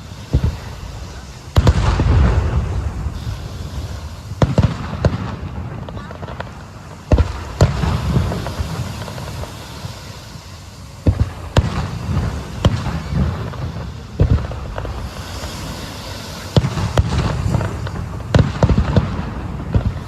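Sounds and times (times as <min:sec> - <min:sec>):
fireworks booming: 0:00.0 - 0:20.0.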